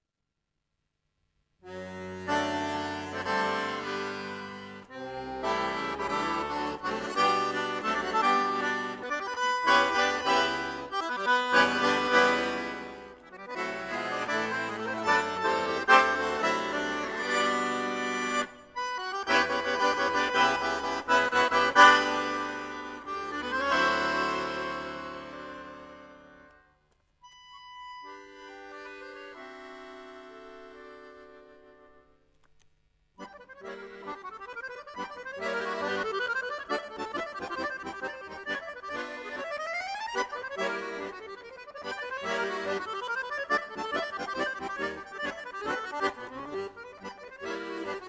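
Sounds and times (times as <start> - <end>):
accordion playing: 1.6 - 32.3, 33.2 - 48.0.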